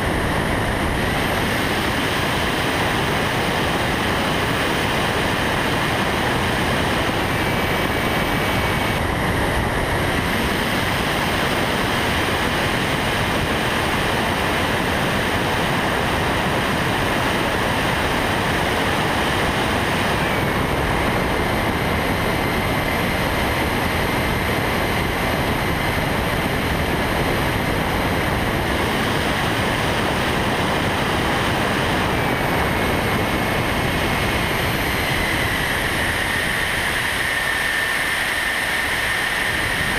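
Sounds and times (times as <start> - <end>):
propeller noise: 0.0 - 39.9
thin motor whine: 0.0 - 39.9
wind rush: 0.0 - 39.9.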